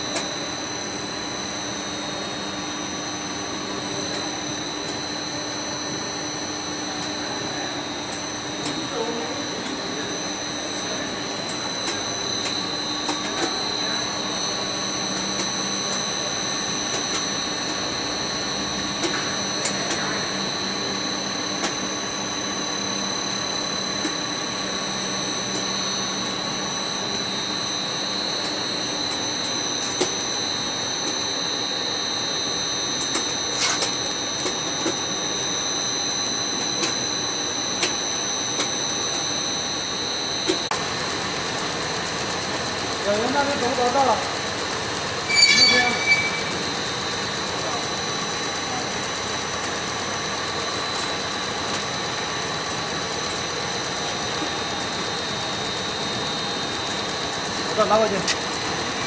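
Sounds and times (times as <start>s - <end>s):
machine running with high whine: 0.0s - 59.0s.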